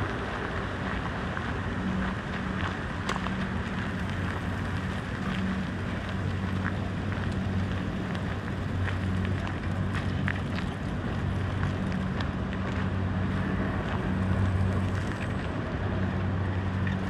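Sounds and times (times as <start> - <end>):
low engine drone: 0.0 - 17.0
traffic noise: 0.0 - 17.0.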